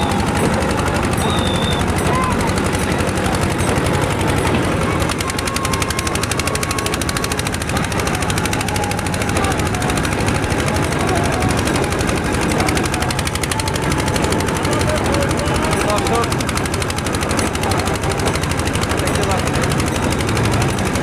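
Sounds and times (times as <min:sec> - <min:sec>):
boat engine chugging: 0:00.0 - 0:21.0.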